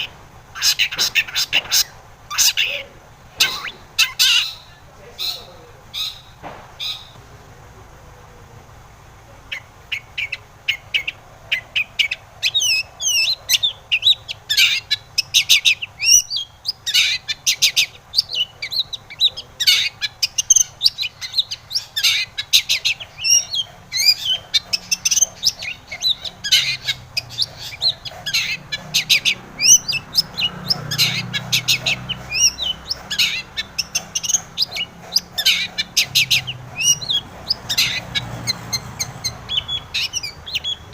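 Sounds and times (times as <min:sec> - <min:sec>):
bird chattering song: 0:00.0 - 0:07.2, 0:08.3 - 0:40.9.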